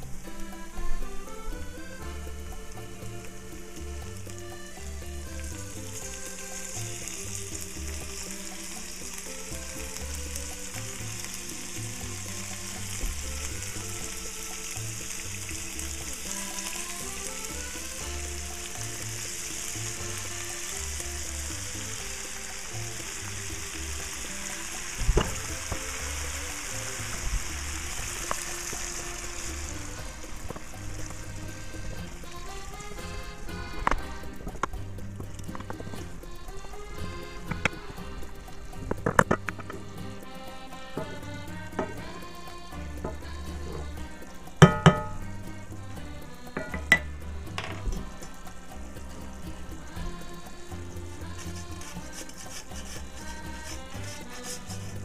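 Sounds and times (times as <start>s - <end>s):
background music: 0.0s - 55.0s
meat sizzling in oil: 1.6s - 55.0s.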